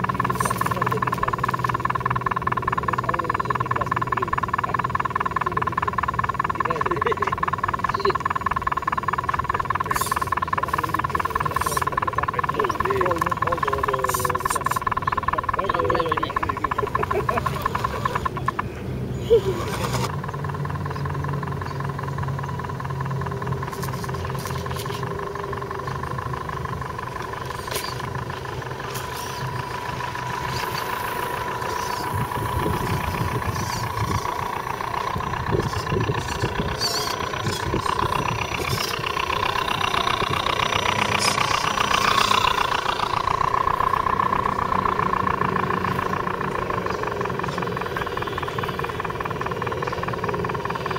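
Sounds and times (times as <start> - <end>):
electric motors whining: 0.0 - 50.9.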